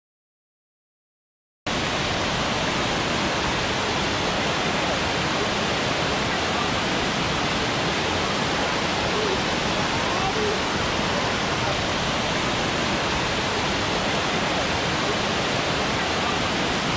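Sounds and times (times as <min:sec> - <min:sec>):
waterfall rushing: 0:01.7 - 0:16.9.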